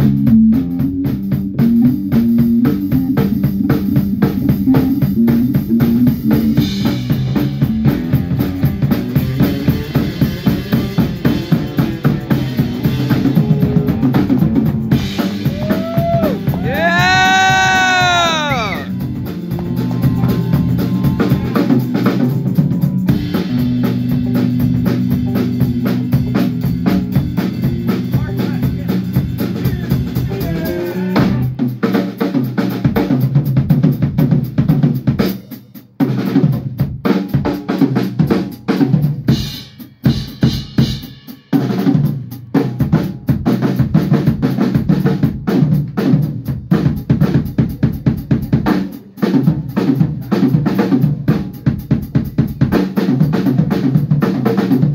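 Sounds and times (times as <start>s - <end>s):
drum kit playing: 0.0s - 54.9s
live band music: 0.0s - 54.9s.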